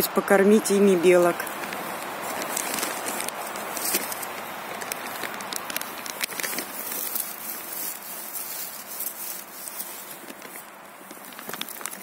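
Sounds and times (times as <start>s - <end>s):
dry leaf litter rustling: 0.5s - 12.0s.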